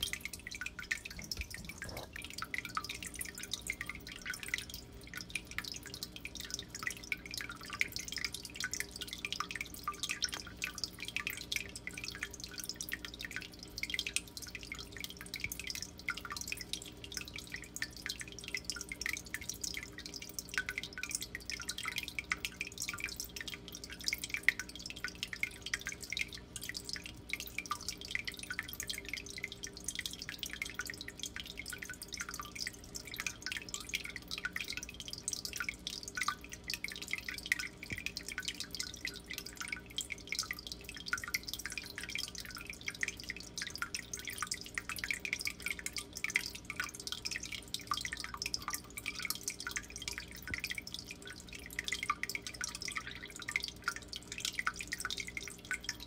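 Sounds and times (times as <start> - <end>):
aquarium water trickling and dripping: 0.0 - 56.0
low steady hum: 0.0 - 56.0.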